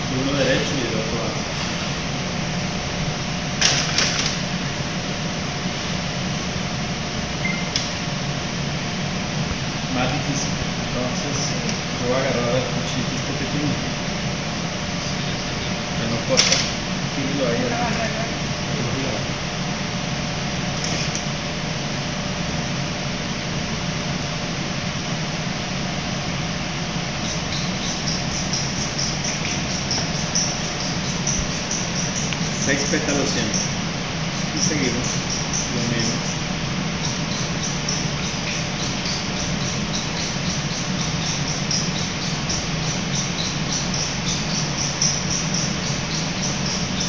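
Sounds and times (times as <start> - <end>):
ventilation hum: 0.0 - 47.0.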